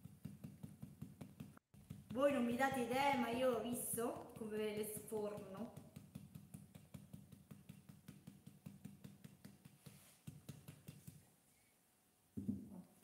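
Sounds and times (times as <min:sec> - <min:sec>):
sponge dabbing on ceramic: 0:00.0 - 0:11.2.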